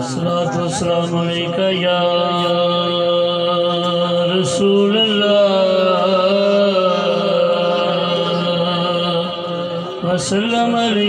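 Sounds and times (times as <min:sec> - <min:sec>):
man chanting through loudspeakers: 0:00.0 - 0:11.0.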